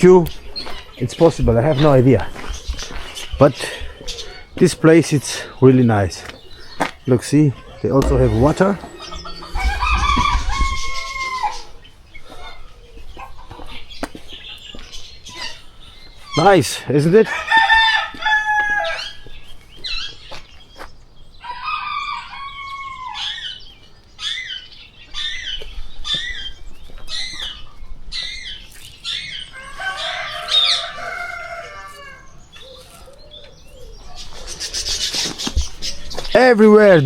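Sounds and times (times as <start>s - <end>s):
chickens clucking: 0.0s - 36.3s
caged birds chirping and squawking: 0.0s - 37.0s.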